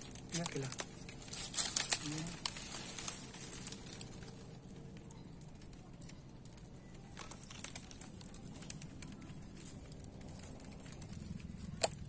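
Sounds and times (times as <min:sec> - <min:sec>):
dry palm fronds rustling: 0:00.0 - 0:12.0.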